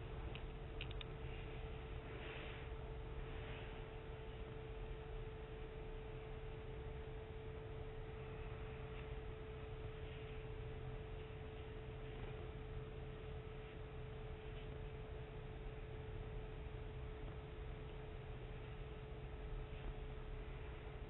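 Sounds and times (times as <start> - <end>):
low background hiss: 0.0 - 21.0
steady constant-pitch hum: 0.0 - 21.0.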